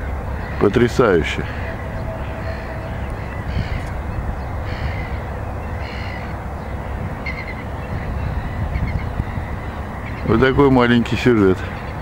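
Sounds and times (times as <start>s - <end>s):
gulls calling: 0.0s - 12.0s
steady low rumble: 0.0s - 12.0s.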